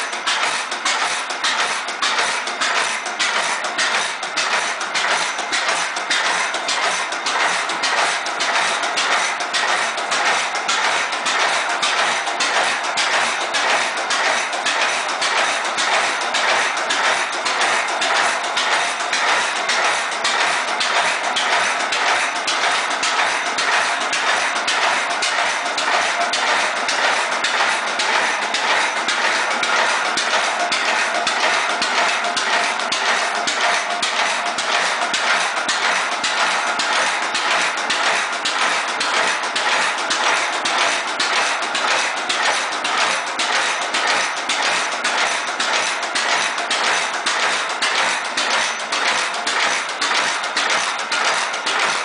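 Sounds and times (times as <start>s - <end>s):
stationary gas engine clattering: 0.0s - 52.0s.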